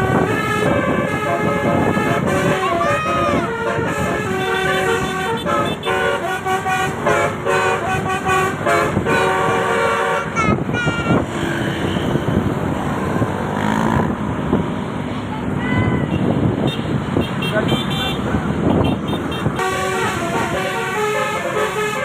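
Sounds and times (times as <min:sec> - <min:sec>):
multi-tone bus horn tune: 0:00.0 - 0:12.2, 0:16.0 - 0:22.0
road and vehicle noise: 0:00.0 - 0:22.0.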